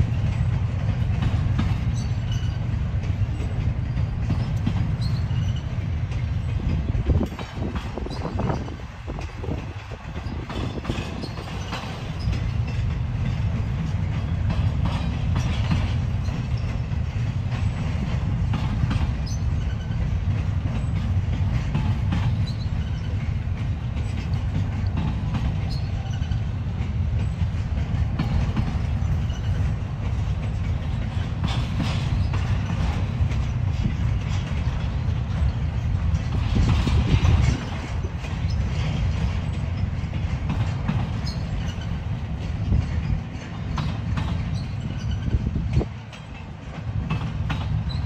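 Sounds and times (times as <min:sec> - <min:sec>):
freight train rumbling: 0:00.0 - 0:48.0
wheels clacking over rail joints: 0:00.0 - 0:48.0.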